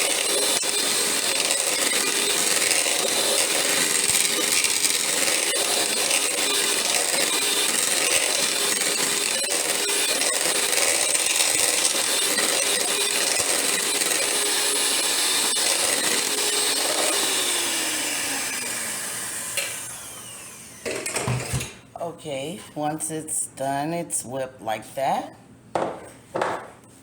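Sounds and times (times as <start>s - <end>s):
electric hand mixer running: 0.0s - 21.8s.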